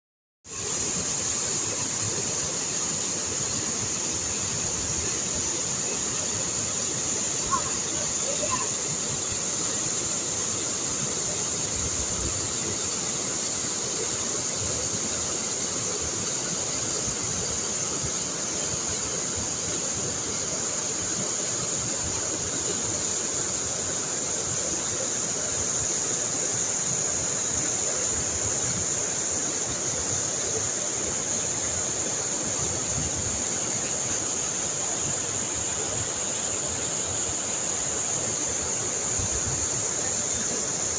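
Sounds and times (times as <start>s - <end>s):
rushing water: 0.5s - 40.9s.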